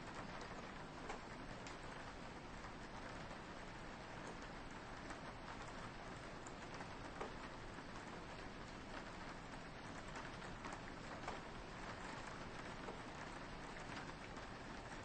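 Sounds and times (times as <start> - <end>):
soft rain: 0.0 - 15.0.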